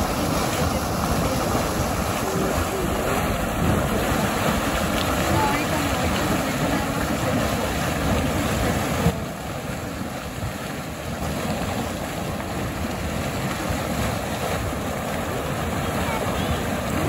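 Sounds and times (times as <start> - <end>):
mud pool boiling: 0.0 - 17.0.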